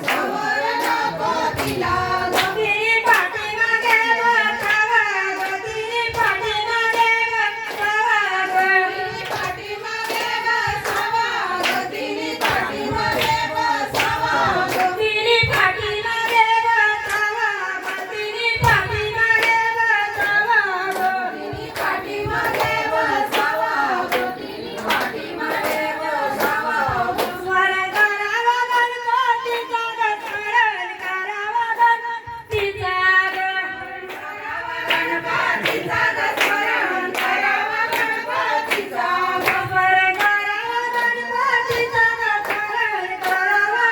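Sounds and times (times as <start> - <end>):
rhythmic hand clapping: 0.0 - 43.9
woman singing devotional song: 0.0 - 43.9.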